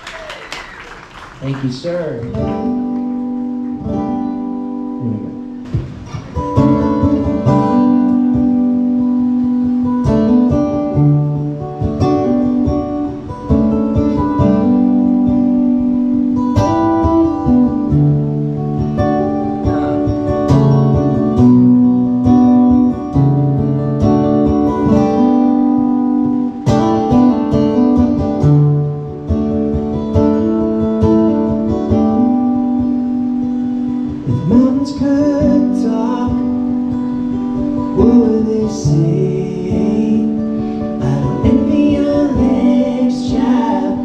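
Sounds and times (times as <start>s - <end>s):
acoustic guitar strumming: 0.7s - 44.0s.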